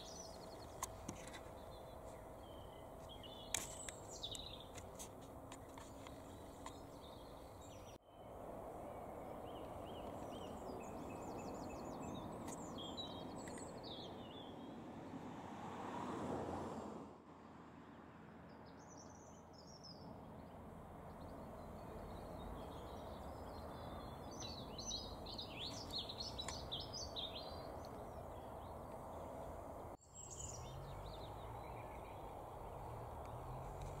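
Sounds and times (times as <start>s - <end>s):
small birds chirping: 0.0s - 14.8s, 18.6s - 34.0s.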